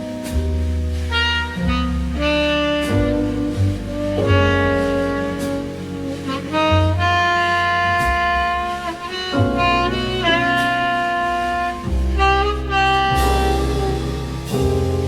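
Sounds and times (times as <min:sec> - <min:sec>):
bass line: 0:00.0 - 0:15.0
lead instrument melody: 0:00.0 - 0:15.0.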